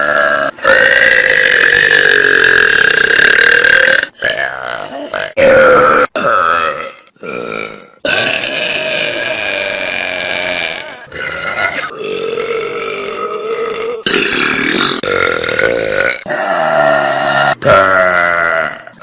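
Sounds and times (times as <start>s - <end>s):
person burping: 0.0s - 19.0s.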